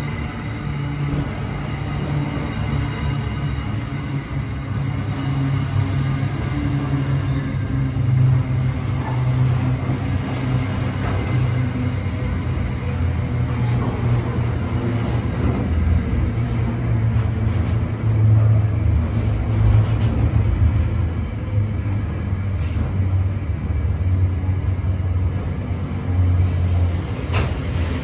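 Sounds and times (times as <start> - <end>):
freight train wheels rolling: 0.0 - 28.0.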